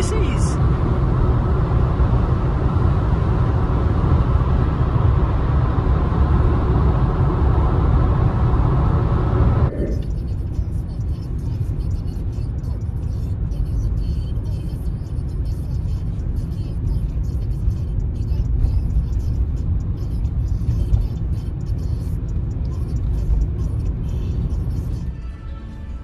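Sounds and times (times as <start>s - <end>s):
road and engine noise in car: 0.0s - 26.0s.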